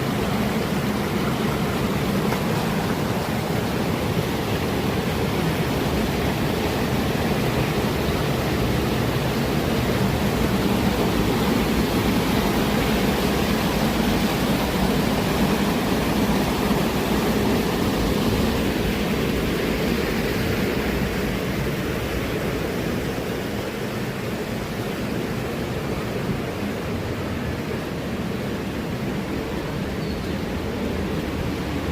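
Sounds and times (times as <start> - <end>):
water flowing: 0.0 - 31.9.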